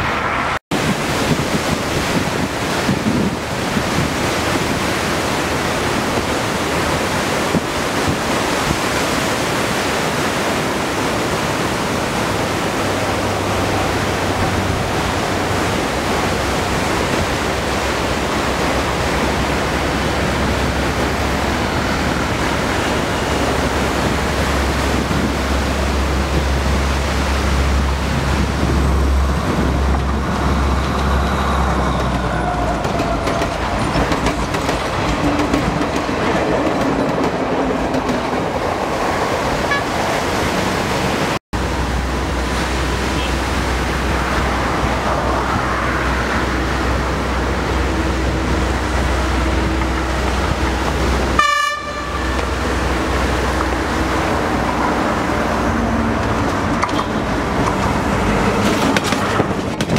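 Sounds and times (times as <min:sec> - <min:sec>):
surf washing on shore: 0:00.0 - 0:59.9
train engine drone: 0:00.0 - 0:59.9.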